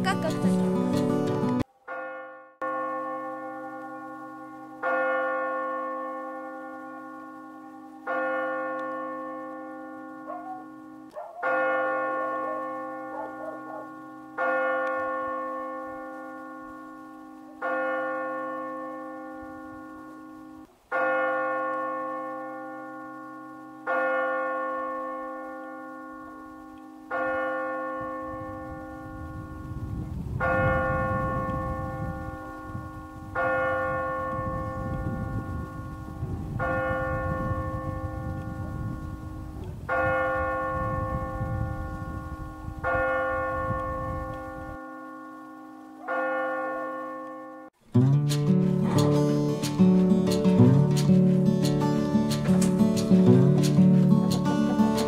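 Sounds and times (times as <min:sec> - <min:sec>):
church bell tolling: 0:00.0 - 0:55.0.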